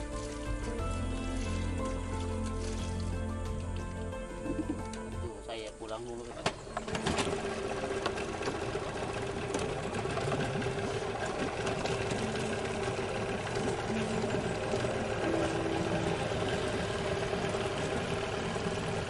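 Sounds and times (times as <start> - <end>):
outboard motor running: 0.0 - 5.4, 6.0 - 19.0.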